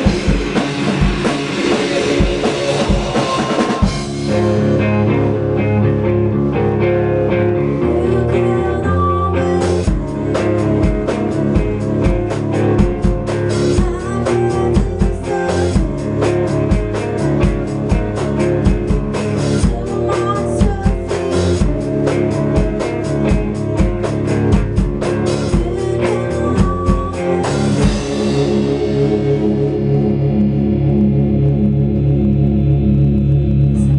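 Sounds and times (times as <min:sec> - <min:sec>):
drum kit: 0:00.0 - 0:33.9
electric guitar through amp: 0:00.0 - 0:33.9.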